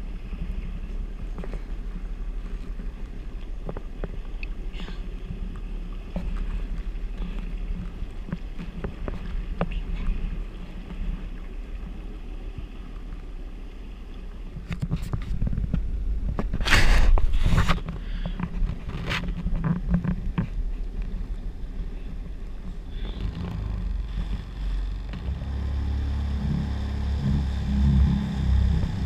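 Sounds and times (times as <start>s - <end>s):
jet ski engine humming: 0.0s - 18.9s, 19.8s - 29.0s
water slapping the hull: 0.0s - 29.0s.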